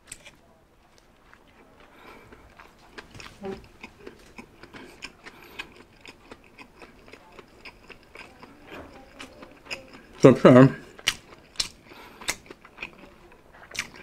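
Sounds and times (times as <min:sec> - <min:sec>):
close chewing with wet mouth clicks: 0:01.0 - 0:14.0.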